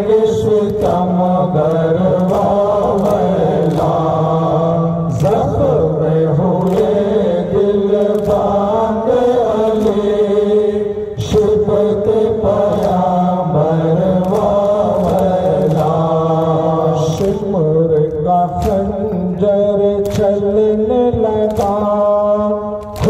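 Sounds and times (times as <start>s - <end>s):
lead voice on microphone: 0.0s - 23.0s
men chanting in unison: 0.0s - 23.0s.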